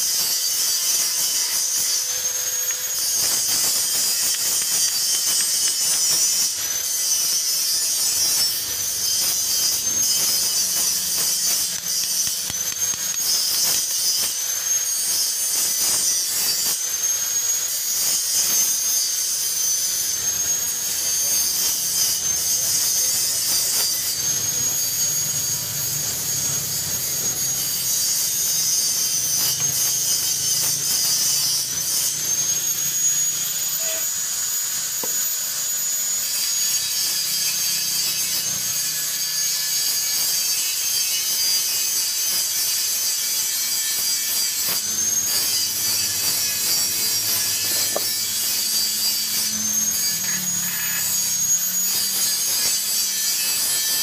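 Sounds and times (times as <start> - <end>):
thin high whine: 0.0 - 54.0
welding arc sizzling and crackling: 0.0 - 54.0.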